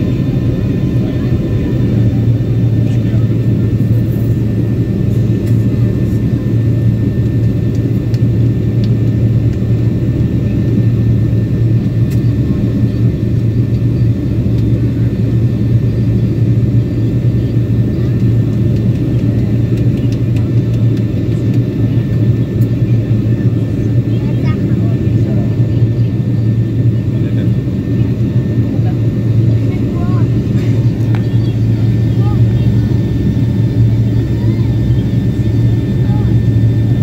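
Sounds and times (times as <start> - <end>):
jet engine rumble in cabin: 0.0 - 37.0.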